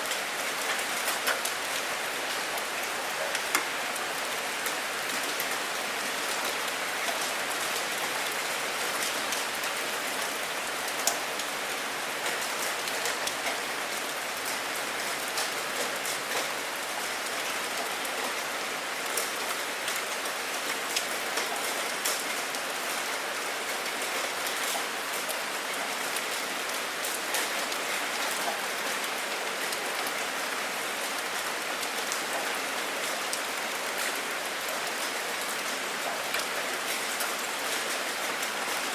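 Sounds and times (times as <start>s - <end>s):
rain drops ticking on hard surface: 0.1s - 38.9s.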